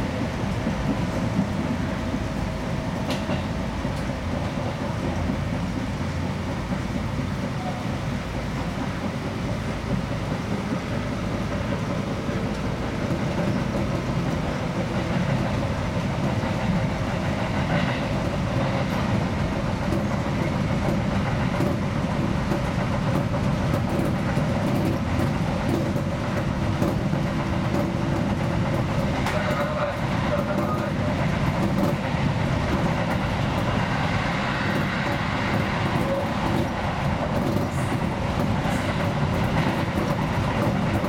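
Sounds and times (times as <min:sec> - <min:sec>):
train motor hum: 0:00.0 - 0:41.0
train wheels rumbling on rail: 0:00.0 - 0:41.0
wheels clicking over rail joints: 0:00.1 - 0:41.0.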